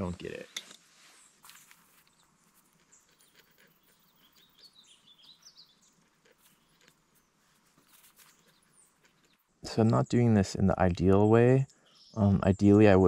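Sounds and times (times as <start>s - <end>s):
bird chirping faintly: 0.0s - 13.0s.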